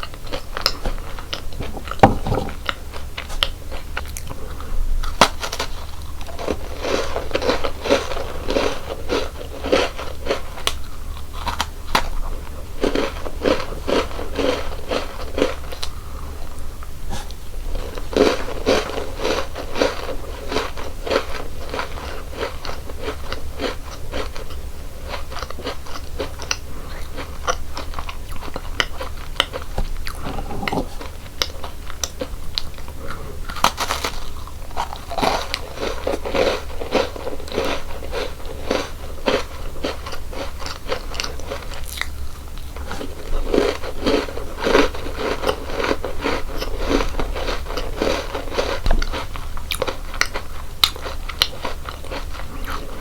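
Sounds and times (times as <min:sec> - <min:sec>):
soft chewing crackles: 0:00.0 - 0:53.0
crunching crisp snacks: 0:02.6 - 0:16.7, 0:17.7 - 0:30.2, 0:30.9 - 0:53.0.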